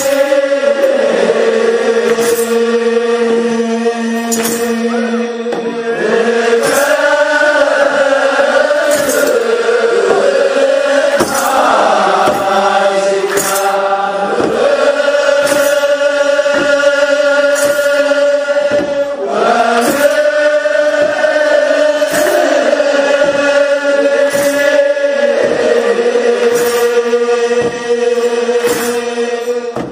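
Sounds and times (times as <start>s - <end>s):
drum beats: 0.0s - 3.1s, 4.1s - 29.9s
men chanting in unison: 0.0s - 29.9s.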